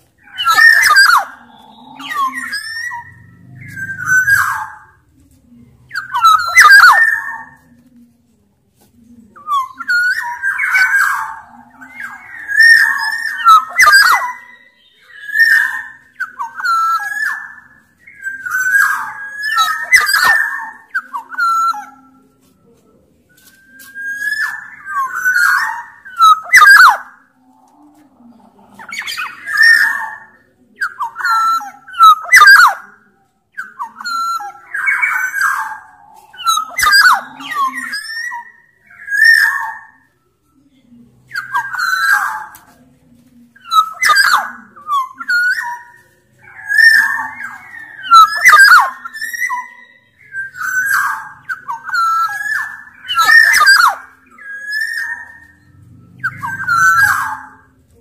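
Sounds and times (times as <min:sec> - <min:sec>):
bird singing fluty and harsh notes: 0:00.0 - 0:07.7, 0:09.4 - 0:22.6, 0:23.4 - 0:27.3, 0:28.8 - 0:40.3, 0:43.6 - 0:58.0.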